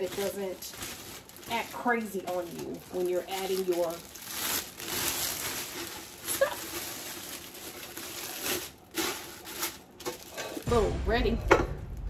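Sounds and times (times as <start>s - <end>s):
plastic bag rustling and crinkling: 0.0s - 10.9s.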